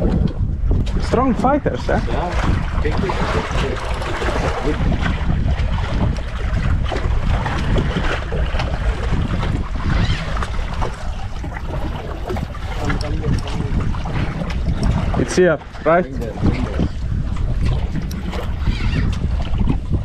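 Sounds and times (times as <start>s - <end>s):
sea washing around boat: 0.0s - 20.0s
wind buffeting microphone: 0.0s - 20.0s.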